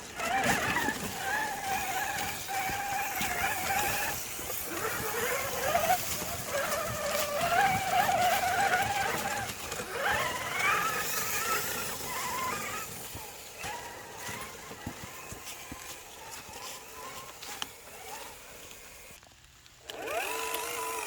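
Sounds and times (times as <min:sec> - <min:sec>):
electric motor and gears whining: 0:00.0 - 0:21.0
tyres clicking on rock: 0:00.0 - 0:21.0.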